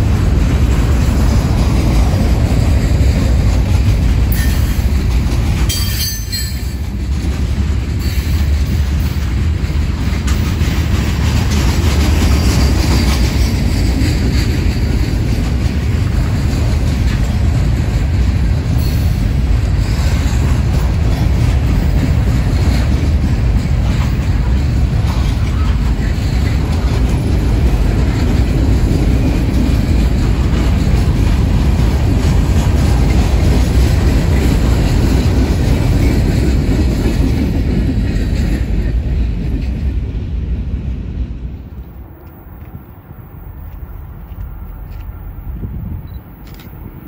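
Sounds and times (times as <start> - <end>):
freight train wheels clattering on rail: 0.0 - 47.0.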